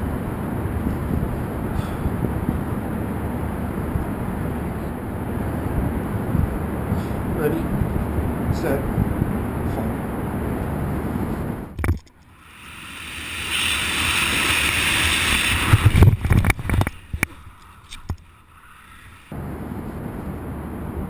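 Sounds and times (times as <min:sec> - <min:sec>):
wind buffeting microphone: 0:00.0 - 0:11.9, 0:13.0 - 0:21.0.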